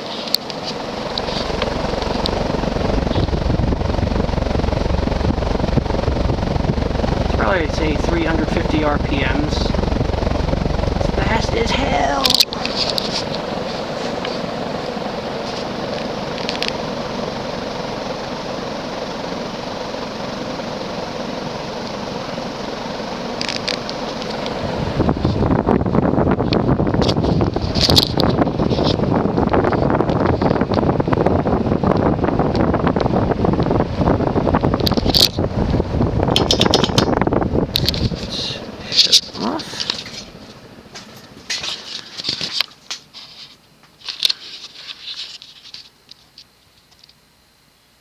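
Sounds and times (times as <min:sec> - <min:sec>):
ceiling fan running fast: 0:00.0 - 0:45.8.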